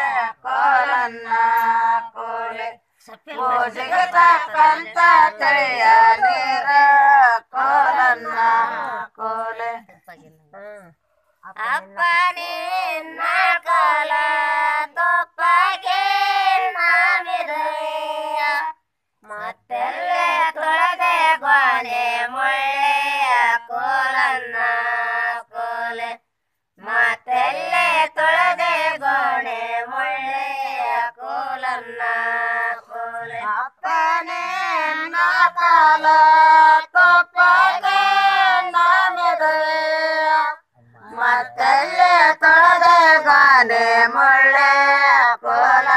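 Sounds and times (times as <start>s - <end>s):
women singing folk song: 0.0s - 45.9s.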